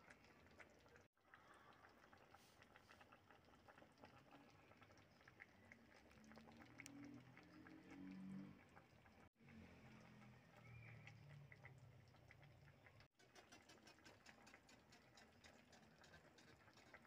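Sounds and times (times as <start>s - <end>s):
soup pot simmering: 0.0s - 17.0s.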